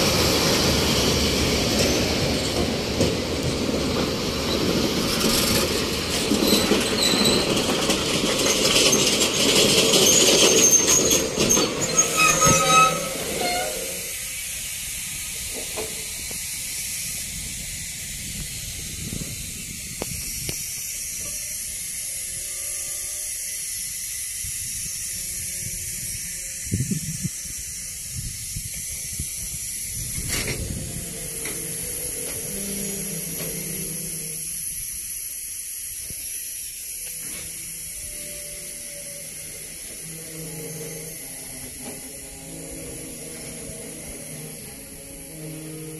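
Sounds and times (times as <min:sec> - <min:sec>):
steady hiss: 0:00.0 - 0:45.9
train brakes squealing: 0:00.0 - 0:45.9.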